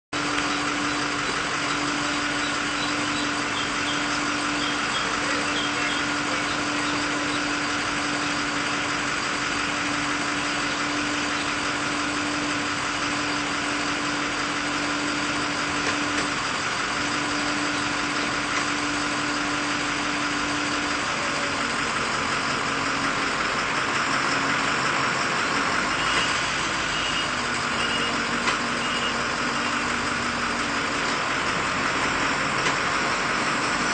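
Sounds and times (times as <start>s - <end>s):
engine drone: 0.1s - 33.9s.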